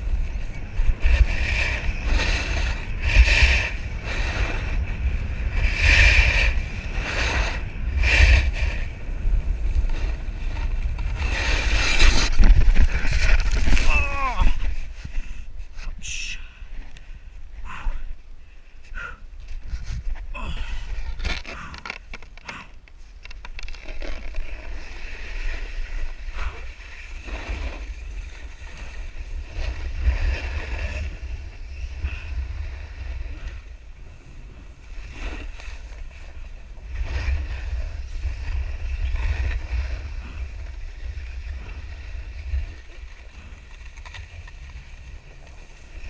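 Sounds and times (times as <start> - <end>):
snowboard sliding on snow: 0.0 - 15.9, 23.8 - 46.0
wind rumbling on microphone: 0.0 - 46.0.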